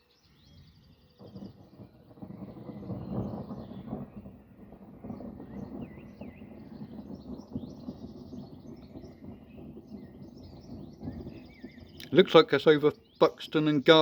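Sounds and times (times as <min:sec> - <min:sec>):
birds chirping and singing: 0:00.0 - 0:04.3, 0:05.0 - 0:14.0.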